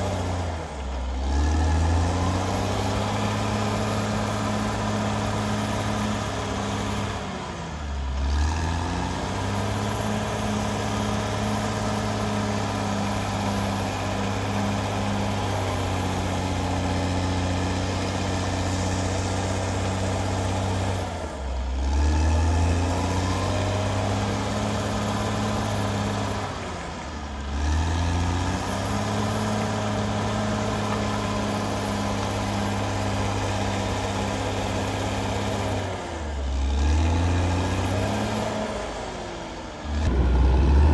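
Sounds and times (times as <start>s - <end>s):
bulldozer diesel engine: 0.0s - 40.9s.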